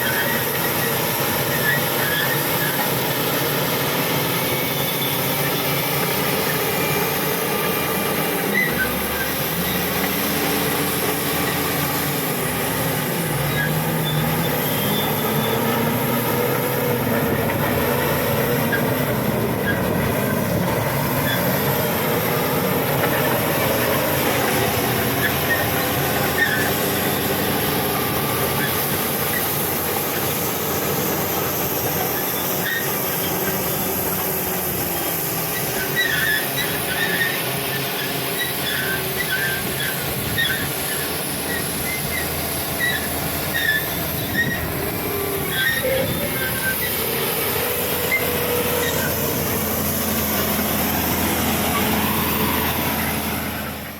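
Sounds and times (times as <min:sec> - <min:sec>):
bulldozer diesel engine: 0:00.0 - 0:53.9
steel tracks squealing: 0:00.0 - 0:53.9.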